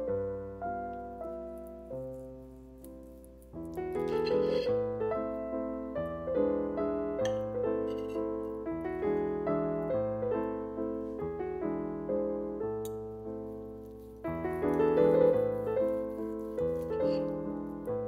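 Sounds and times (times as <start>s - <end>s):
slow calm piano music: 0.0s - 18.0s.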